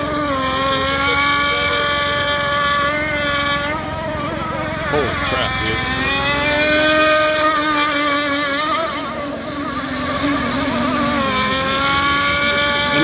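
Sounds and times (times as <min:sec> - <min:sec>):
rc boat engine whining: 0:00.0 - 0:13.0.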